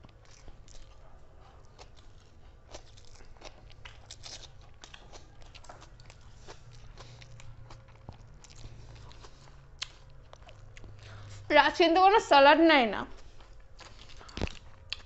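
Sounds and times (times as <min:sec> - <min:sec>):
crunching bites and chewing: 0:00.0 - 0:11.4, 0:13.2 - 0:15.0.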